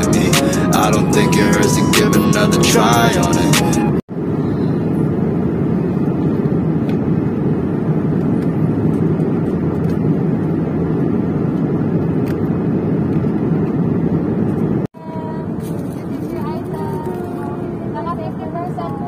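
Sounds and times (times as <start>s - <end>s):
jet airliner cabin roar: 0.0s - 19.0s.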